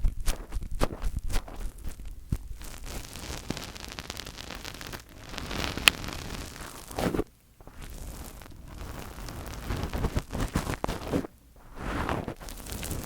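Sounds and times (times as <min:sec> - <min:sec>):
fingers rubbing on microphone: 0:00.0 - 0:13.0.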